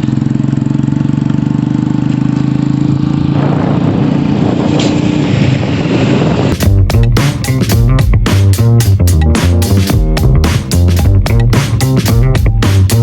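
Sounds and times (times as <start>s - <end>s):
road noise: 0.0s - 13.0s
vehicle engine pulling away: 0.0s - 13.0s.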